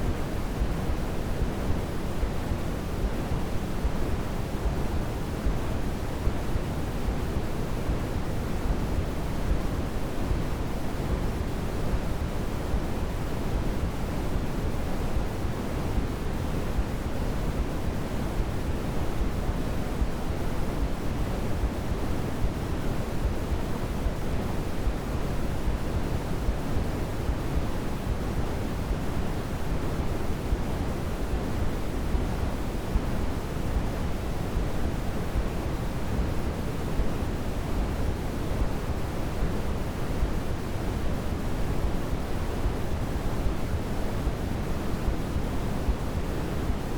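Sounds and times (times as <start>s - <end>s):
steady pink noise hiss: 0.0s - 46.9s.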